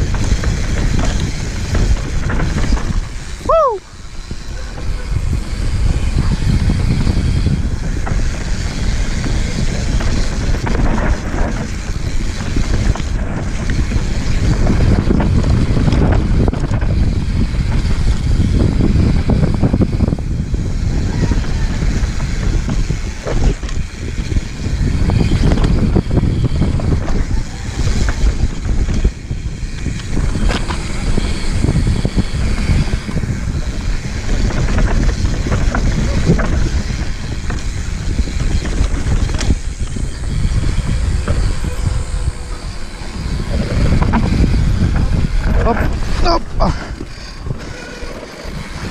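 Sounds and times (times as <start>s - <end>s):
bike clicks and rattles: 0.0s - 48.9s
tyres rolling on dirt: 0.0s - 48.9s
wind buffeting microphone: 0.0s - 48.9s.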